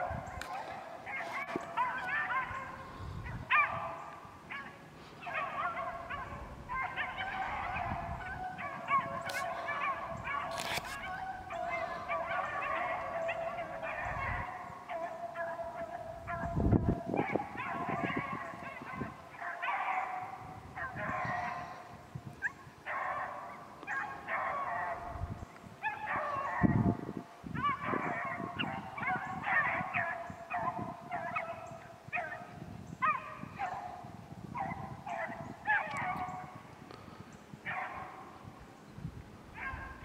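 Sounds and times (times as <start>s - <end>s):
pack of dogs baying: 0.0s - 36.7s, 37.6s - 38.5s, 39.5s - 40.0s.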